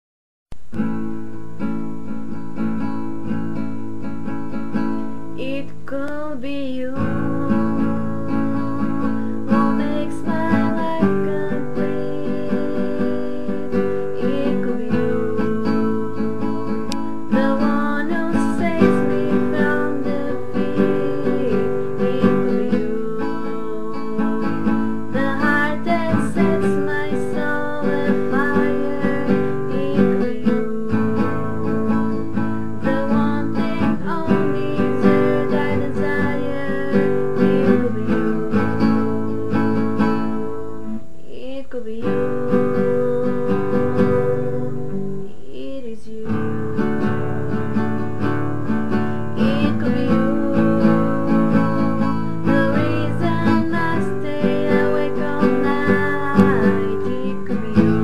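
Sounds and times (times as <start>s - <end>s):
strummed acoustic guitar: 0.6s - 58.0s.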